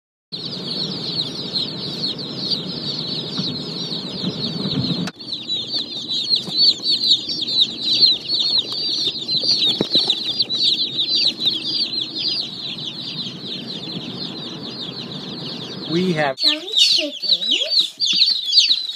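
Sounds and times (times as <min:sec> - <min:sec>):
low rumble: 0:00.4 - 0:16.3
chicks peeping: 0:00.4 - 0:18.9.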